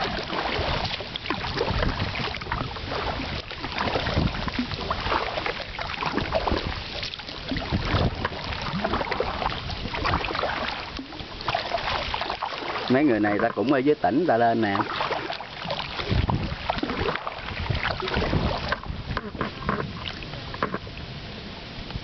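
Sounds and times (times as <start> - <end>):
paddles splashing water: 0.0 - 22.0
wind buffeting microphone: 0.0 - 22.0.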